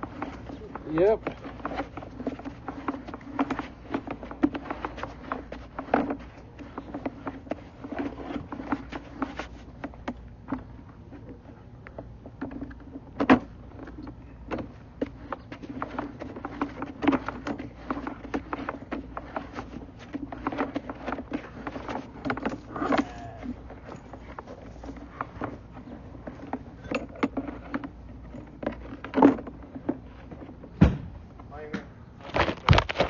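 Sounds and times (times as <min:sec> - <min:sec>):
cable rattling in a pipe: 0:00.0 - 0:30.8.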